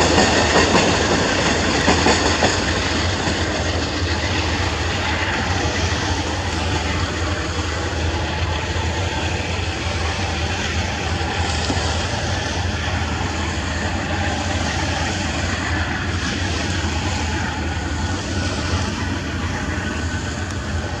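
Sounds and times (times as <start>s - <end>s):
passenger train rumbling: 0.0s - 21.0s.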